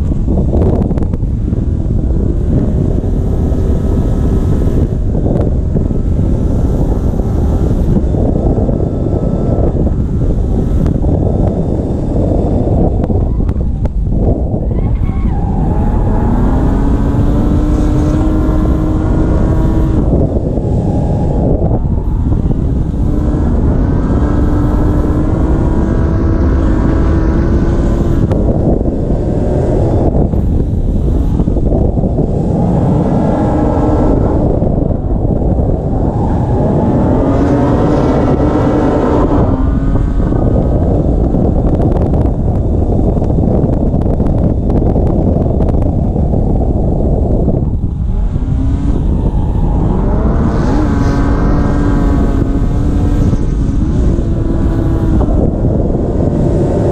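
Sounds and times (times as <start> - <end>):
car engine revving high: 0.0 - 45.6, 47.6 - 56.9
wind rumble on microphone: 0.0 - 56.9.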